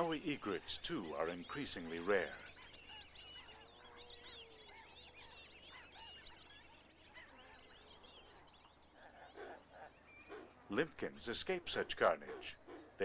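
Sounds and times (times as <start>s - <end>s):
chorus of birds chirping: 0.0s - 13.0s.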